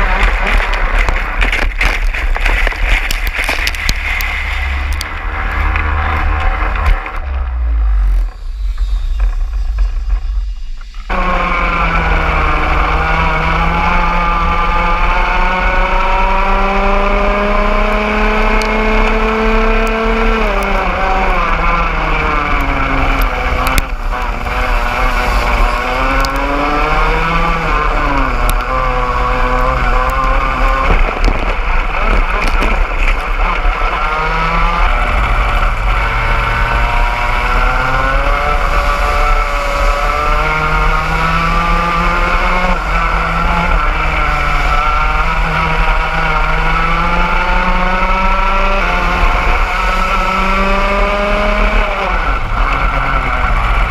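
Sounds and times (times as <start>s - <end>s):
kart engine at full throttle: 0.0s - 8.4s, 11.0s - 53.9s
other kart engines: 0.0s - 53.9s.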